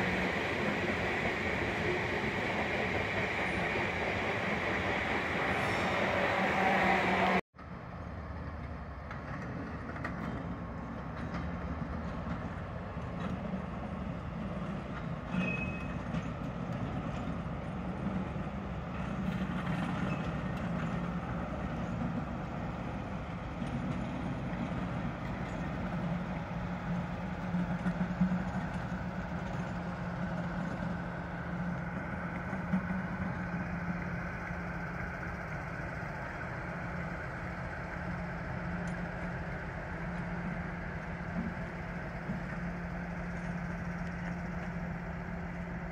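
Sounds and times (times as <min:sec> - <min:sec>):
diesel locomotive engines humming: 0:00.0 - 0:45.9
train wheel and rail noise: 0:00.0 - 0:45.9.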